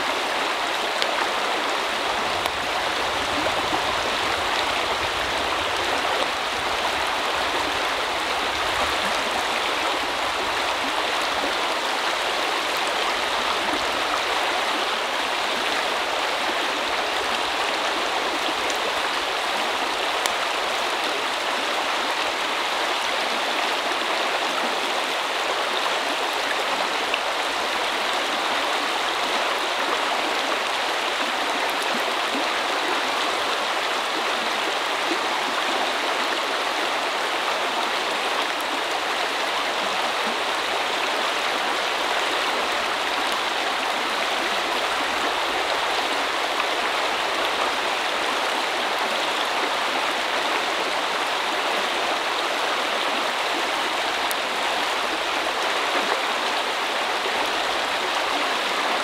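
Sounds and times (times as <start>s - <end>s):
river water rushing over stones: 0.0s - 59.0s.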